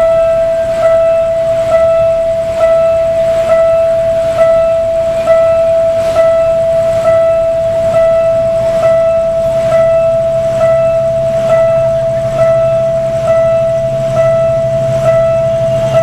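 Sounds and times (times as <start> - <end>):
diesel locomotive engine hum: 0.0 - 16.0
level-crossing warning bell ringing: 0.0 - 16.0.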